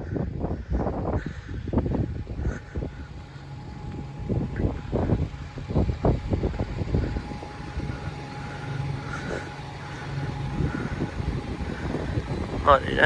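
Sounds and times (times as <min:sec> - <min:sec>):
low vehicle engine hum: 0:00.0 - 0:13.0
wind buffeting microphone: 0:00.0 - 0:13.0.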